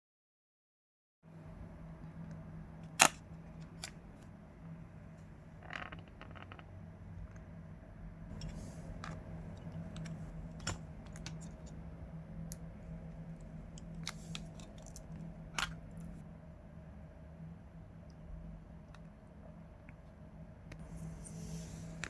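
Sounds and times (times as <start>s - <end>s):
steady low hum: 1.3s - 22.0s.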